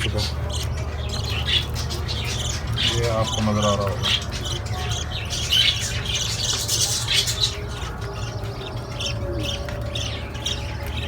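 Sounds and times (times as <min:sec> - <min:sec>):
parrots chirping and squawking: 0:00.0 - 0:11.0.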